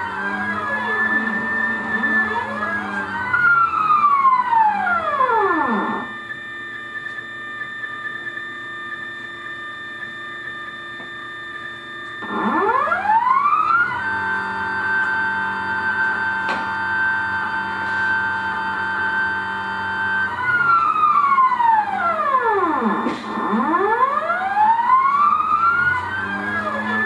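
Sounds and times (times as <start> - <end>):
stepper motors whining: 0.0 - 27.0.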